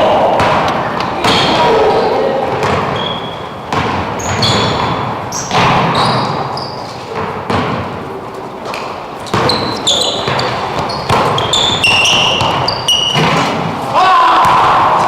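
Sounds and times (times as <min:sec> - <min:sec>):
basketball bouncing on gym floor: 0:00.0 - 0:08.1, 0:08.7 - 0:13.7
sneakers squeaking on court: 0:00.2 - 0:13.7.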